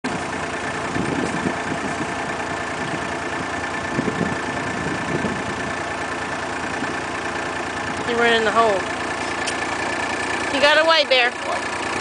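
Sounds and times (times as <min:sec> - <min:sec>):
idling engine hum: 0:00.0 - 0:12.0.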